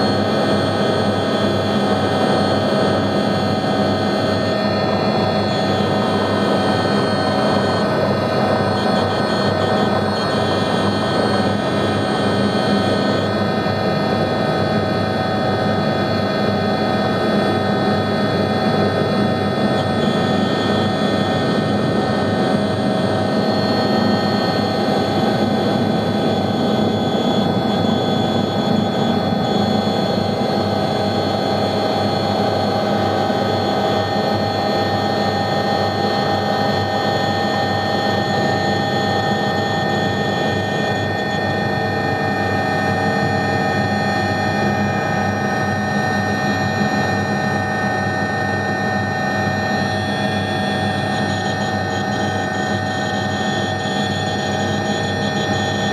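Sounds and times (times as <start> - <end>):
helicopter rotor noise: 0.0 - 55.9
helicopter turbine whine: 0.0 - 55.9.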